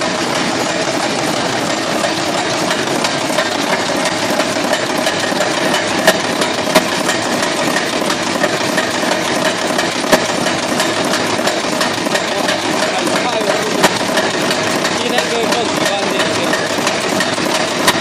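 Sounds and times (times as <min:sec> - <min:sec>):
punch press machinery drone: 0:00.0 - 0:18.0
sharp metal clacks: 0:00.0 - 0:18.0.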